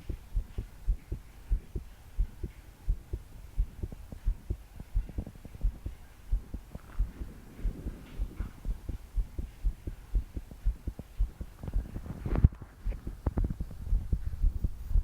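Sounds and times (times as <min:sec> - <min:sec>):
fast pounding heartbeat: 0:00.0 - 0:15.0.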